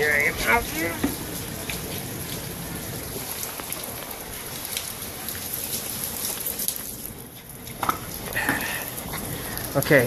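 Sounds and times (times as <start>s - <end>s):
rain hissing: 0.0s - 10.0s
raindrops ticking: 0.0s - 10.0s.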